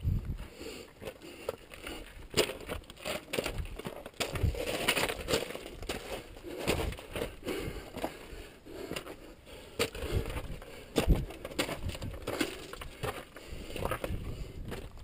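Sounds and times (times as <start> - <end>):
loose rock crunching and clattering: 1.0 - 15.0.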